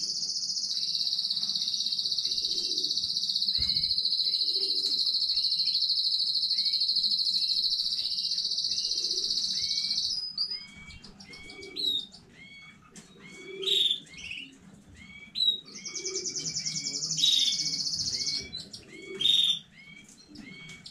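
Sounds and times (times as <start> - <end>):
canary singing: 0.0 - 20.9.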